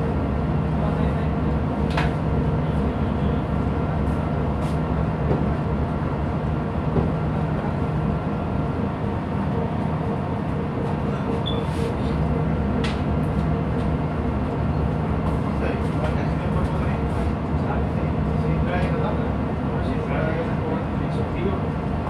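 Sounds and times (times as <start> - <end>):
ship engine droning: 0.0 - 22.0.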